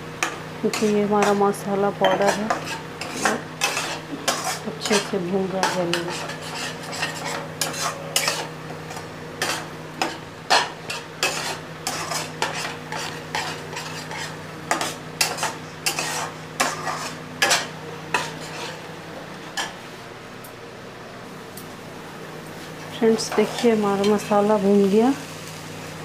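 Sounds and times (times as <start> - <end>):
spices frying with sizzle: 0.0 - 20.0, 21.7 - 26.0
spatula scraping pan: 0.2 - 19.8, 23.1 - 24.5.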